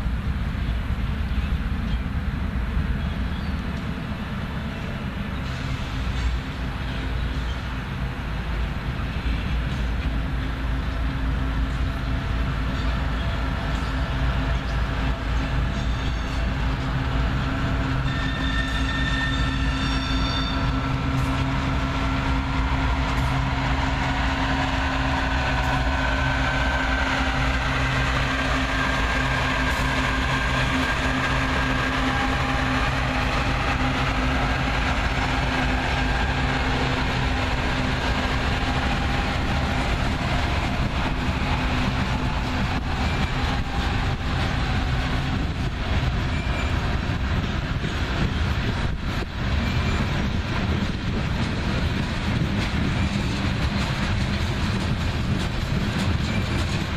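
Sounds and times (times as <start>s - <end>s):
locomotive engines droning: 0.0s - 56.9s
steel wheels rolling on rails: 3.4s - 56.9s.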